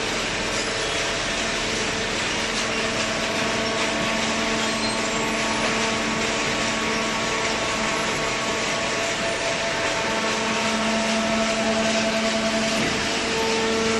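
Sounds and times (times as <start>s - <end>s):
baling press machine hum: 0.0s - 13.9s.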